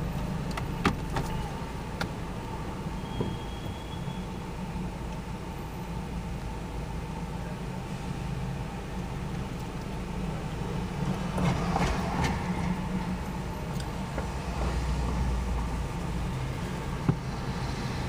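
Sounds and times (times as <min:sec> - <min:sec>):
car engine rumble: 0:00.0 - 0:18.0
surrounding traffic: 0:00.0 - 0:18.0.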